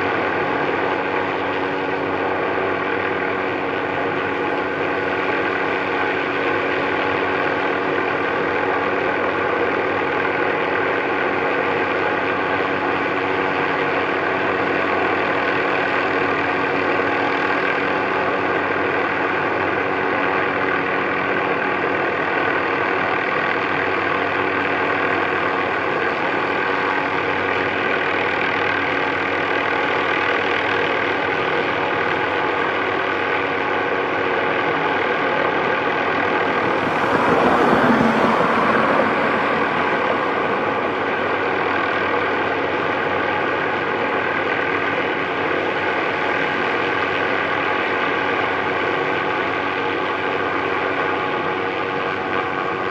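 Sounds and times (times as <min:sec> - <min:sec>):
helicopter engine and rotors: 0:00.0 - 0:52.7.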